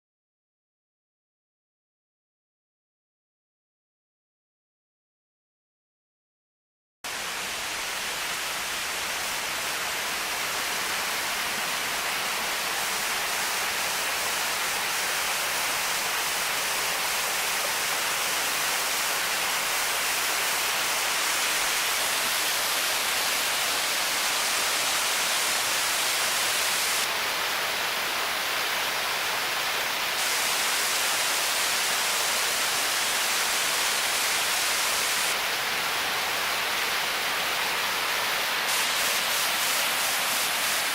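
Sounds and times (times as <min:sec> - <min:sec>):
waterfall roaring: 0:07.1 - 0:40.9.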